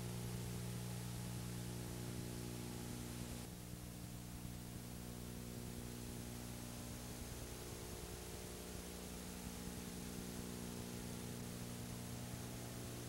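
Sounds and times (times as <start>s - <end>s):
faint electrical hum: 0.0s - 13.0s
tape hiss: 0.0s - 13.0s.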